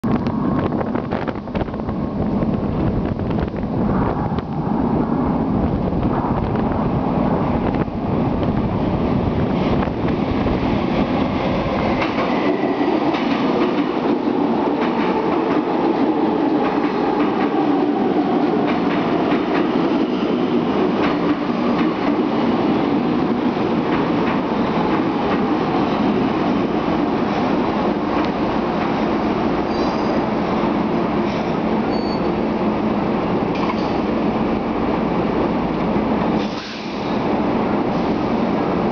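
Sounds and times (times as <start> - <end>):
train rumble with wheel clatter: 0.0 - 38.9
train whine: 0.1 - 38.9.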